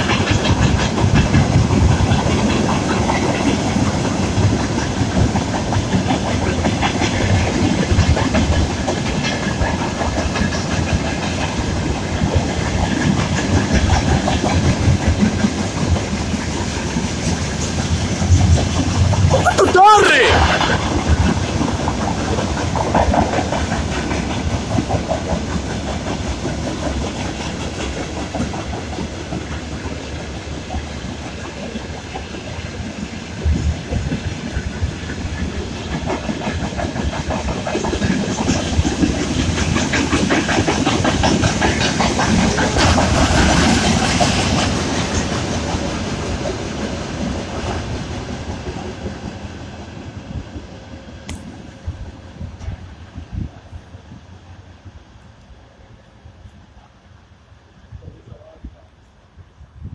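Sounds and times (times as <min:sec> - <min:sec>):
wheels clacking over rail joints: 0:00.0 - 0:19.3, 0:20.4 - 0:49.4
freight train rumbling: 0:00.0 - 0:59.9.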